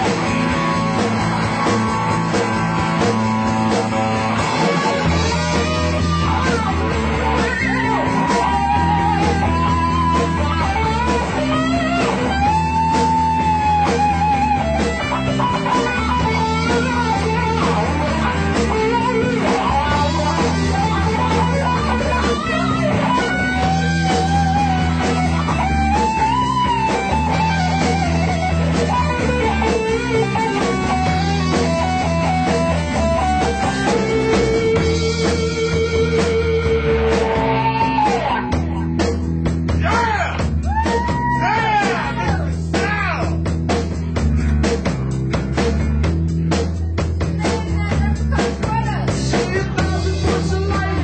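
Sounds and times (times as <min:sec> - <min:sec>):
lead electric guitar bent notes: 0:00.0 - 0:42.8
live rock band playing: 0:00.0 - 0:51.0.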